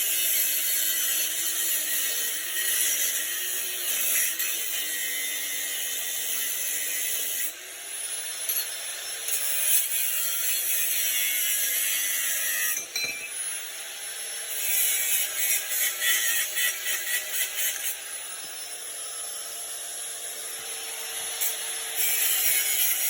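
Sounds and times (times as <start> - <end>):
power tool cutting steel tubing: 0.0 - 23.0.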